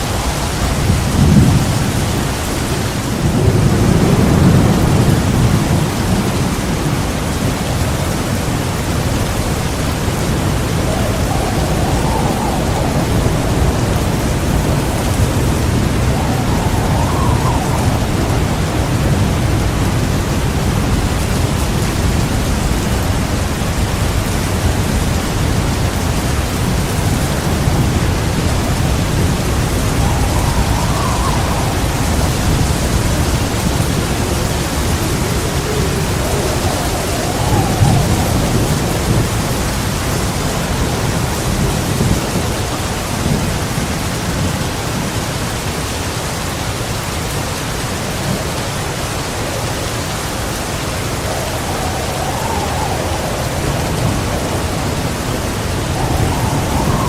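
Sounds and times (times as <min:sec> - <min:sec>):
thunder rumbling: 0:00.0 - 0:45.9, 0:48.1 - 0:57.0
heavy rain: 0:00.0 - 0:57.0.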